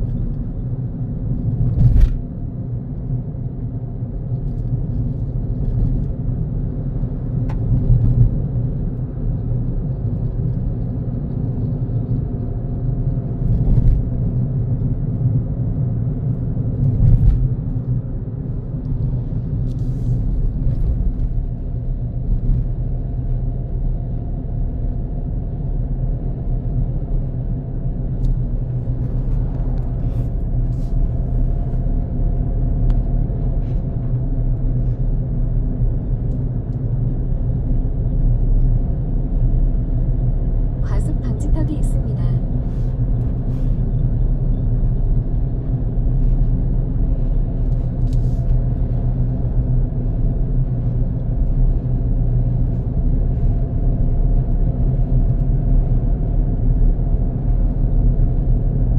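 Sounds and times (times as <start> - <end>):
car engine and tyre rumble: 0.0 - 58.9.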